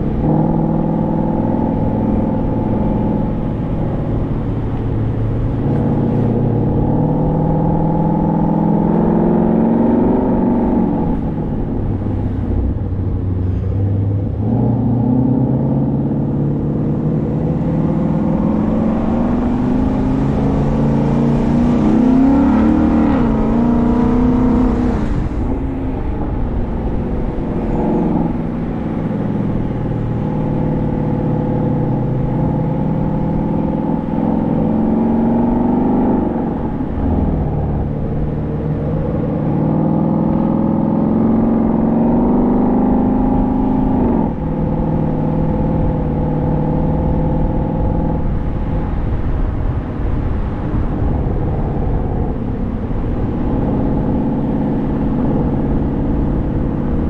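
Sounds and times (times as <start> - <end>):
car engine accelerating: 0.0 - 57.0
road noise rumble: 0.0 - 57.0.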